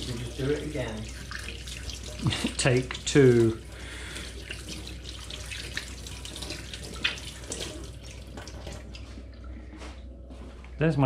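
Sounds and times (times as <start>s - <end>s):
tap water running into sink: 0.0s - 9.5s.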